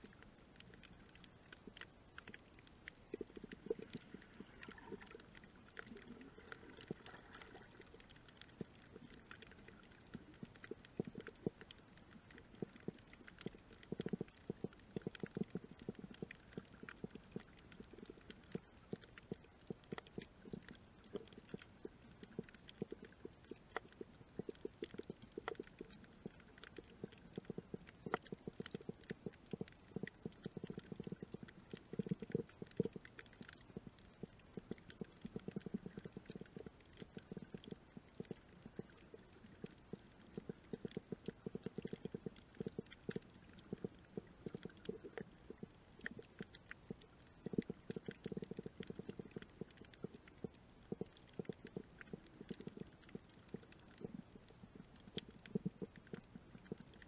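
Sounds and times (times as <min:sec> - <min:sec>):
low dull underwater hum: 0:00.0 - 0:57.0
underwater reef clicks and crackles: 0:00.0 - 0:57.0.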